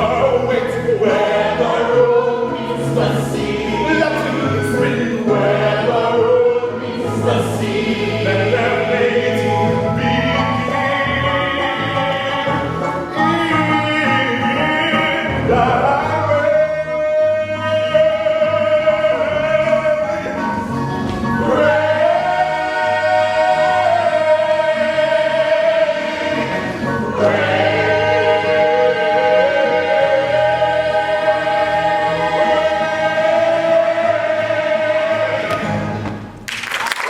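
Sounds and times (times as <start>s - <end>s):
musical theatre chorus singing: 0.0s - 36.4s.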